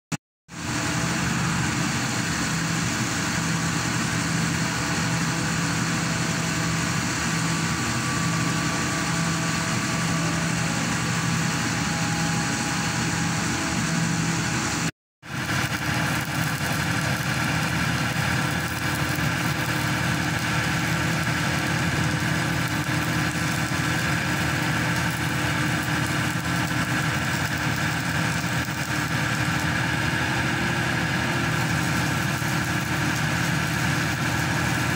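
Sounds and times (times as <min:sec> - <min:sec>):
pile driver engine droning: 0:00.5 - 0:34.9.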